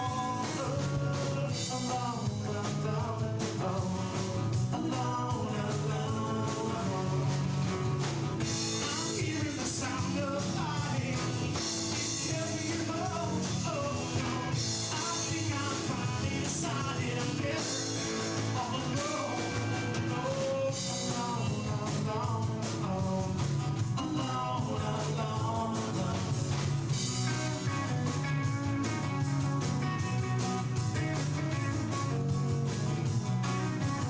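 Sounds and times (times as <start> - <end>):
rock song with singing: 0.0 - 34.0.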